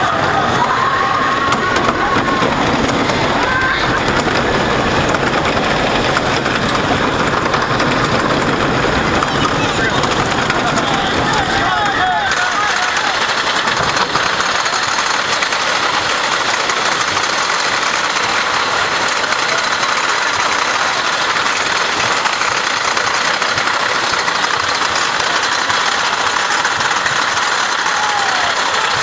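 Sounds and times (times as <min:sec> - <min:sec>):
roller coaster clattering rattle: 0:00.0 - 0:29.0.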